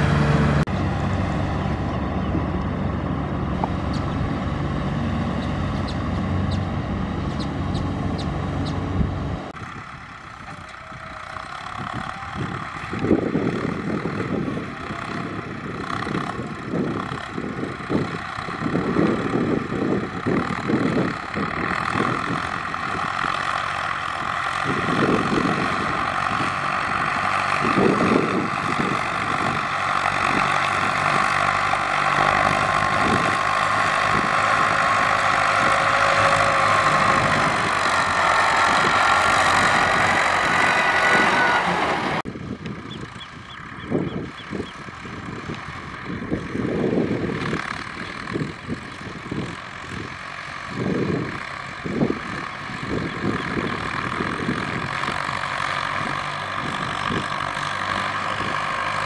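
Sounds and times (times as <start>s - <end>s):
combine harvester engine whine: 0.0s - 59.0s.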